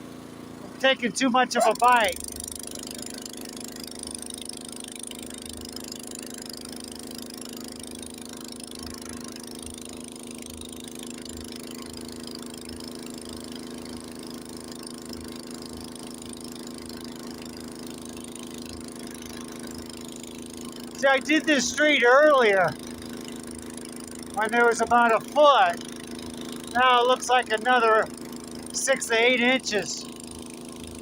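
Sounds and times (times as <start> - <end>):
snowblower engine running: 0.0 - 31.0.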